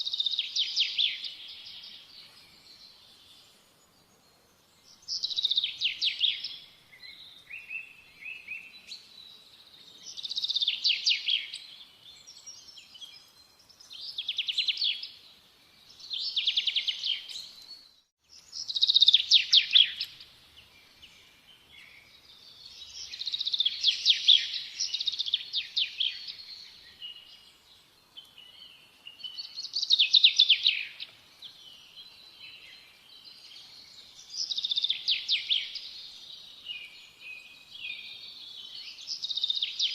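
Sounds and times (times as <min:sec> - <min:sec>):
small bird singing trills: 0:00.0 - 0:39.9.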